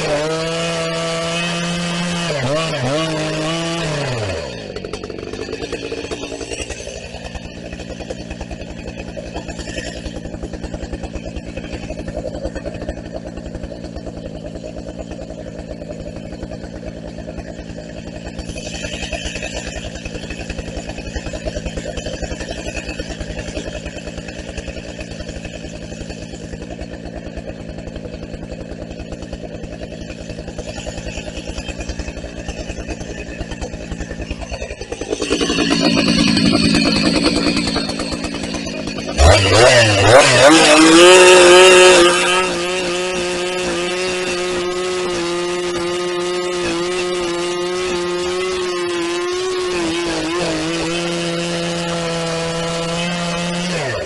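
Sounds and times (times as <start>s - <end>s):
chainsaw idling: 0.0s - 54.0s.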